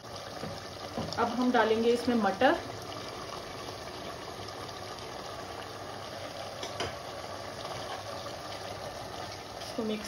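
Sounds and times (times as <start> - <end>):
curry simmering and bubbling: 0.0 - 10.0.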